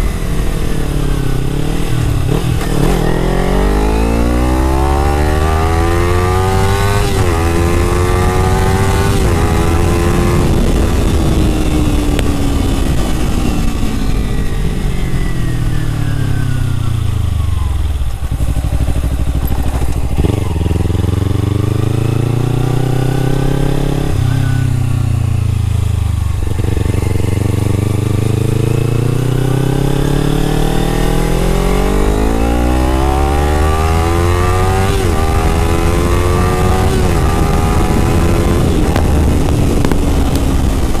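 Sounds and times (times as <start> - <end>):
motorcycle engine accelerating: 0.0 - 41.0
wind and road noise: 0.0 - 41.0.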